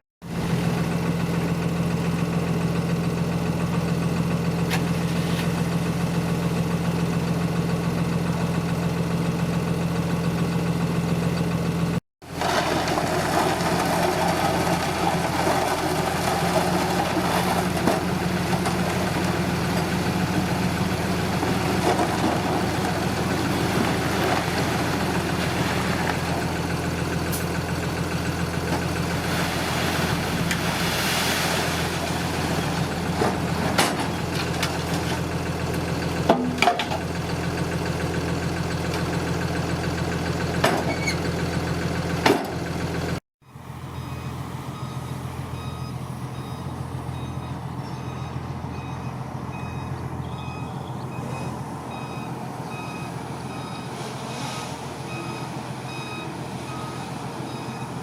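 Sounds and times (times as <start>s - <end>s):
diesel engine running: 0.2s - 58.0s.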